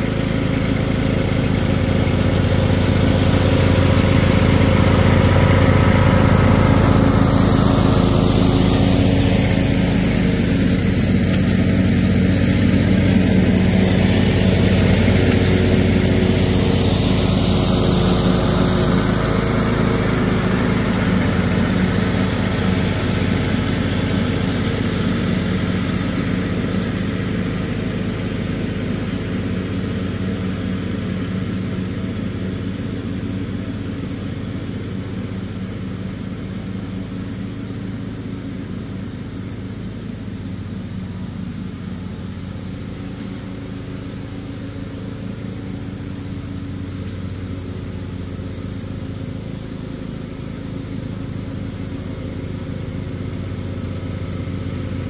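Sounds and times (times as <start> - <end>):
riding lawn mower running: 0.0 - 55.0.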